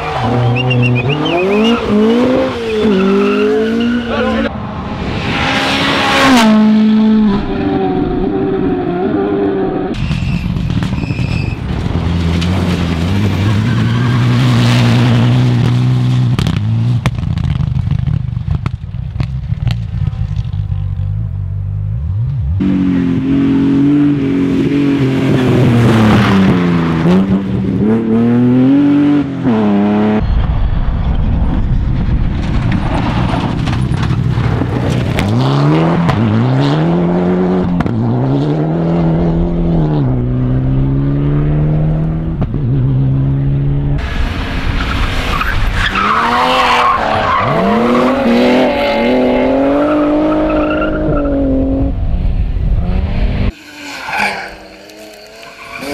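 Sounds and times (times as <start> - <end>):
rally car engines revving: 0.0 - 17.9, 21.9 - 30.2, 32.6 - 55.9.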